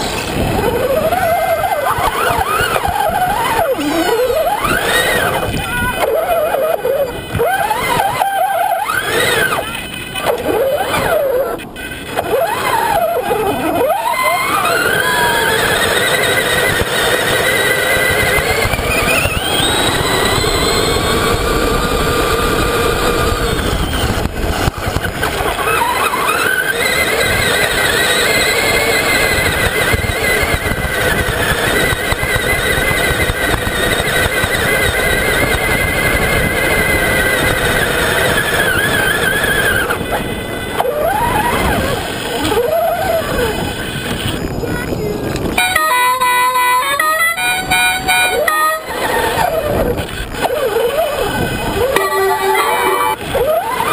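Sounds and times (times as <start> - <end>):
rc truck motor whining: 0.0 - 53.9.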